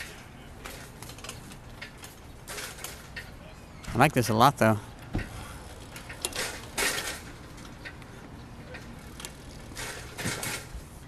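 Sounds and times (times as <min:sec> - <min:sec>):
tricycle rolling on concrete: 0:00.0 - 0:11.0.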